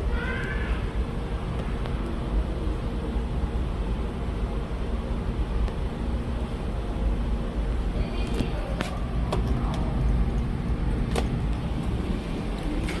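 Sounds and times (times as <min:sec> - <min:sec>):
elevator running: 0:00.0 - 0:13.0.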